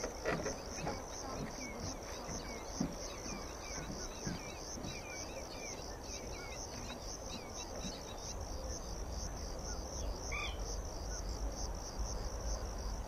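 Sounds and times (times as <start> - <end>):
small birds chirping: 0.0 - 11.4
insect chirping in pulses: 0.0 - 13.0.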